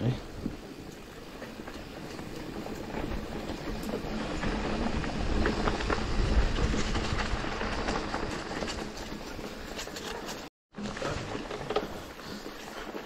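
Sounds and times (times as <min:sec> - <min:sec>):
bike tyres rolling on trail: 0:00.0 - 0:13.0
stones and bike rattling: 0:00.1 - 0:13.0.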